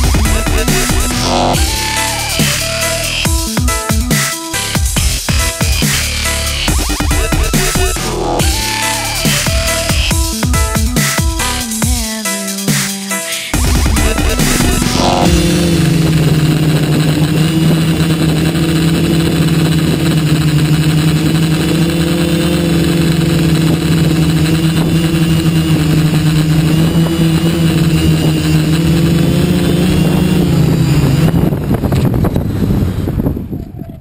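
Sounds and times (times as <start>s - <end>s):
quadcopter propellers buzzing: 0.0s - 33.6s.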